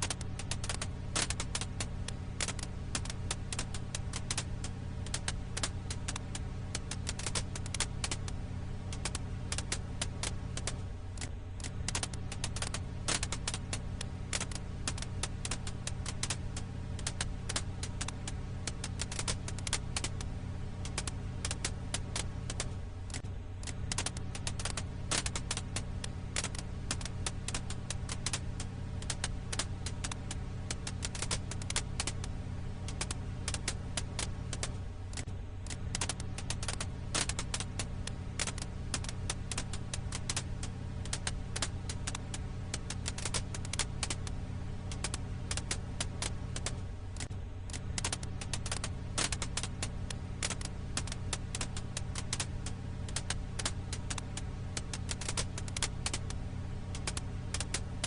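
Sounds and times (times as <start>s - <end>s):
firewood crackling: 0.0s - 58.0s
steady low hum: 0.0s - 58.0s.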